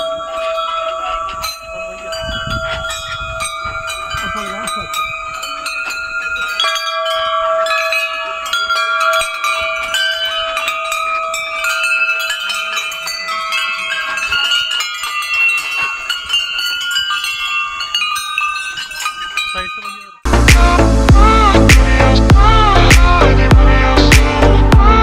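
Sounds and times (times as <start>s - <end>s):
bell-like ringing tones: 0.0s - 20.4s.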